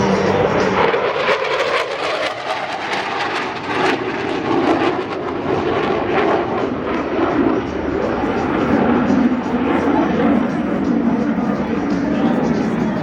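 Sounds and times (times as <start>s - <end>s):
aircraft engine running: 0.0s - 13.0s.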